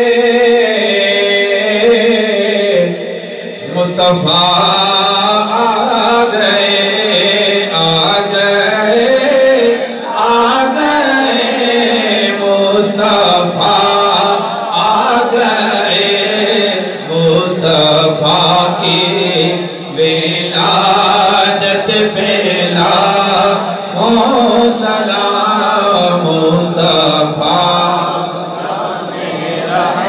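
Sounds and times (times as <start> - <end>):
man chanting into a microphone: 0.0 - 28.6.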